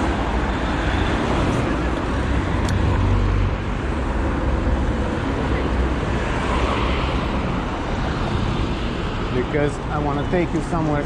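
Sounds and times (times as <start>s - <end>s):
road traffic rumble and hiss: 0.0s - 11.0s.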